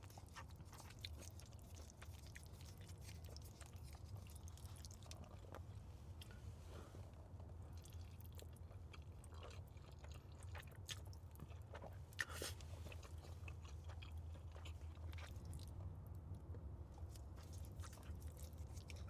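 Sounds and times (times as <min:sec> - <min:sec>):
person chewing spaghetti: 0:00.0 - 0:06.4, 0:07.0 - 0:19.0.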